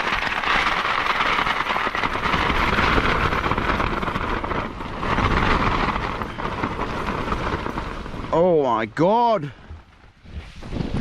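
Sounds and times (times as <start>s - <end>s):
storm wind buffeting microphone: 0.0s - 11.0s.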